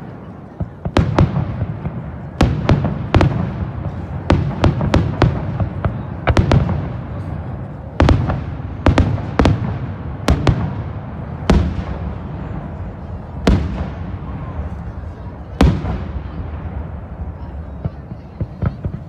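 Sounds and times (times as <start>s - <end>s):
fireworks bursting with bangs: 0.0s - 19.0s.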